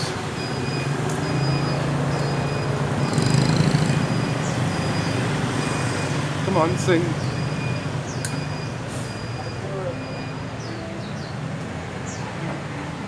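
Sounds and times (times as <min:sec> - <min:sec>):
motorbike engines passing: 0:00.0 - 0:13.0.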